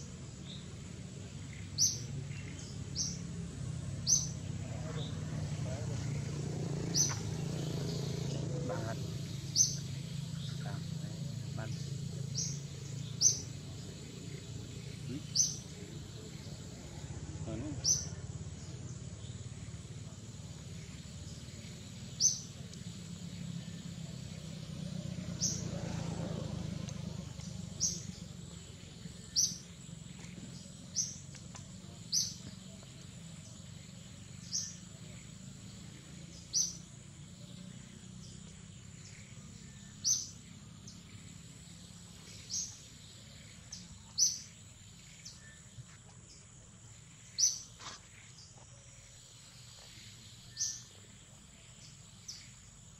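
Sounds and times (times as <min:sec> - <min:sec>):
bird chirping: 0:00.0 - 0:52.9.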